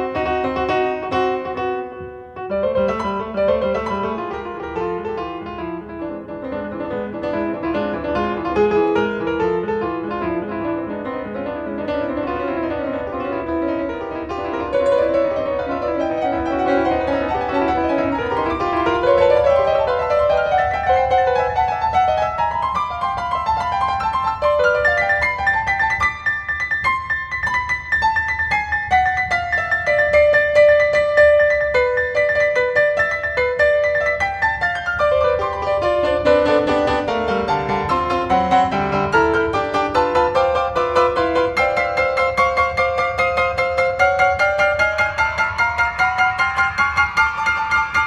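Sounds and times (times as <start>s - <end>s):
piano playing fast runs: 0.0s - 48.0s.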